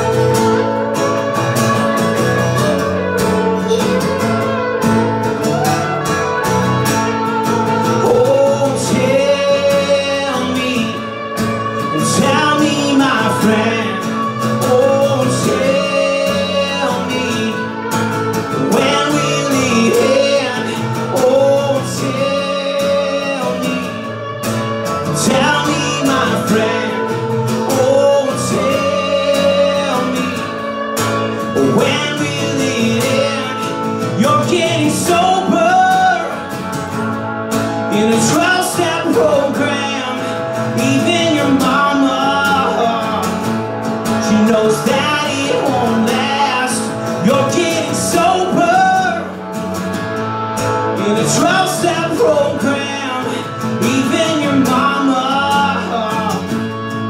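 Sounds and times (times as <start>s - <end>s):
electric guitar: 0.0s - 57.0s
pitch-bending melody line: 0.0s - 57.0s
strummed acoustic guitar: 0.0s - 57.0s.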